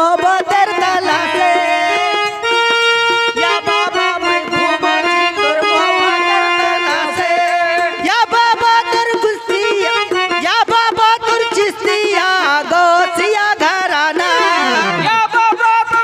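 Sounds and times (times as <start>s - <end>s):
harmonium melody: 0.0s - 16.0s.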